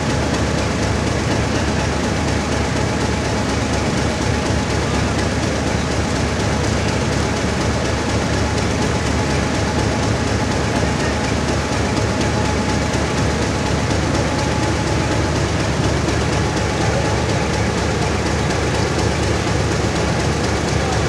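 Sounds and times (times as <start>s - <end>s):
diesel locomotive idling: 0.0s - 21.0s.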